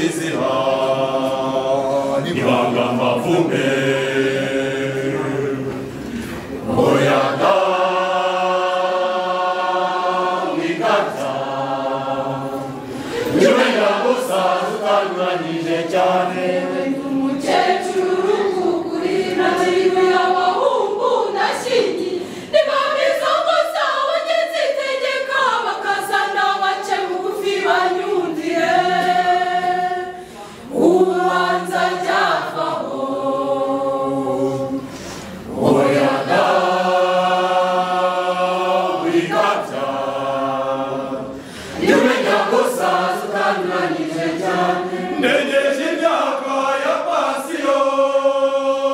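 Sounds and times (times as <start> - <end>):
mixed choir singing: 0.0 - 48.9.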